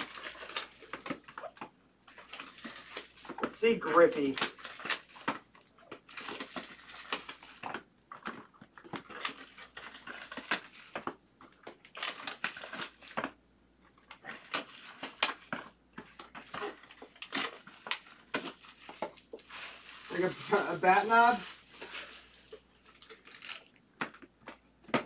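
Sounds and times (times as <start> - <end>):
plastic wrap crinkling: 0.0 - 25.0.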